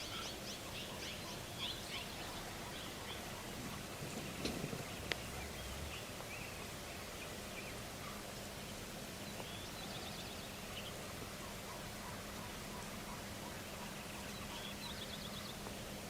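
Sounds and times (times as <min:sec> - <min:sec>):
outdoor background noise: 0:00.0 - 0:16.0
small birds chirping: 0:00.0 - 0:16.0.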